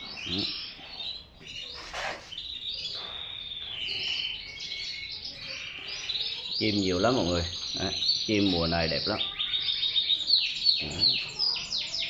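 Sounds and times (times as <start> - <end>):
canaries chirping and trilling: 0.0 - 12.0.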